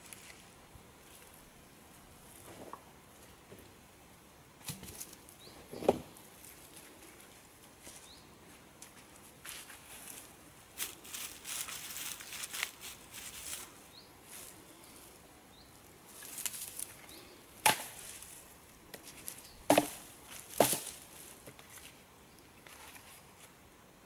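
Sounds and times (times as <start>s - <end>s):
sticks rustling and scraping: 0.0s - 1.4s, 4.6s - 15.2s, 16.1s - 23.6s.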